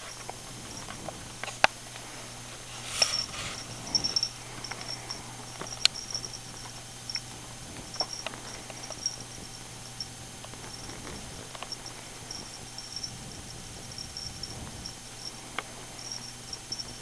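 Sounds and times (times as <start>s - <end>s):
kittens play-fighting on fabric: 0.0s - 17.0s
steady low hum: 0.0s - 17.0s.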